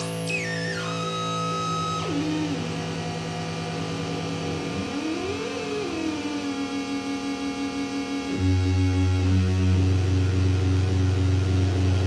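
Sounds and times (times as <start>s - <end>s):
analog synth drone: 0.0s - 12.0s
synth tone sweeping up in pitch: 0.0s - 12.0s.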